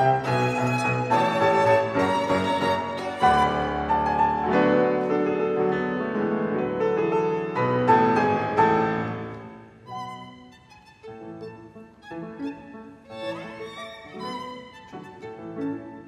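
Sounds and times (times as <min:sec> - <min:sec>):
classical piano passage: 0:00.0 - 0:16.0.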